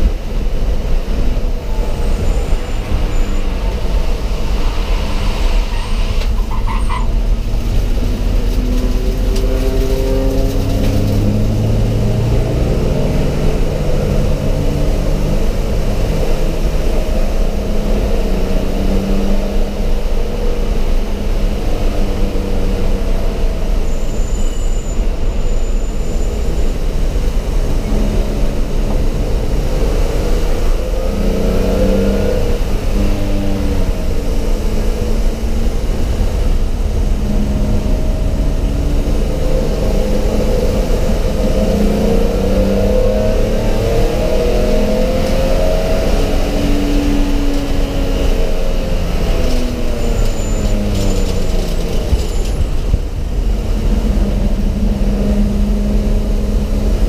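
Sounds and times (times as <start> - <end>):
road and wind noise: 0.0 - 57.0
race car engine running hard: 7.2 - 57.0.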